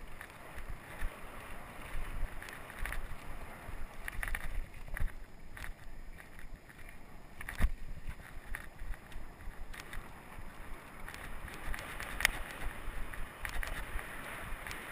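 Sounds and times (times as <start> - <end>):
bike rattles and knocks: 0.0 - 1.2, 1.8 - 14.9
bike rolling over dirt: 0.0 - 14.9
wind rumbling on microphone: 0.0 - 14.9.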